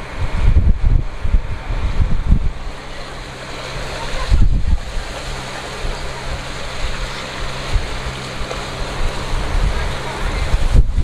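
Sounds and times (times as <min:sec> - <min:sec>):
boat engine humming: 0:00.0 - 0:11.0
wake churning and splashing: 0:00.0 - 0:11.0
wind buffeting microphone: 0:00.0 - 0:11.0.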